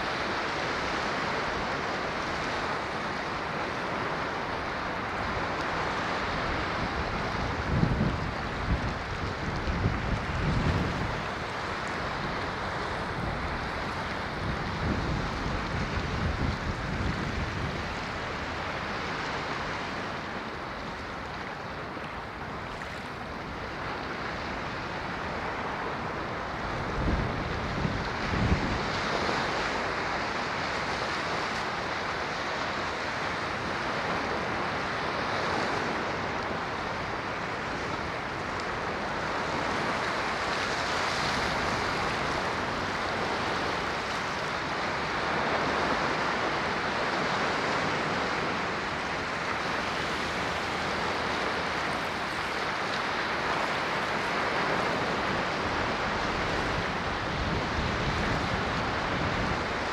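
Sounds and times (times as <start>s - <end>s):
ocean waves washing on shore: 0.0s - 59.9s.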